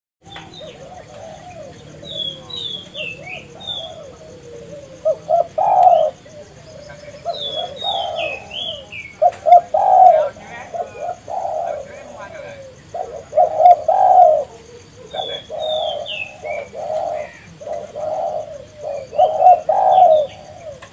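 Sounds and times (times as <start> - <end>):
dove cooing: 0.2 - 20.9.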